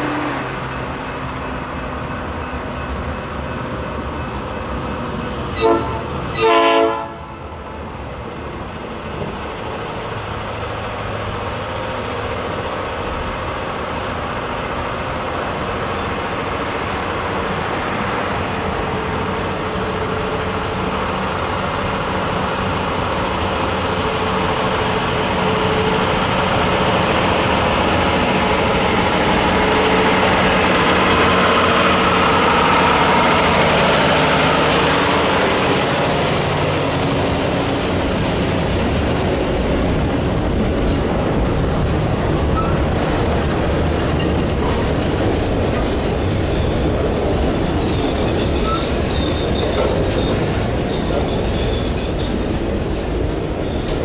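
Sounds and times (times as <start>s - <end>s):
rail and wheel noise: 0.0s - 54.0s
train engine drone: 0.0s - 54.0s.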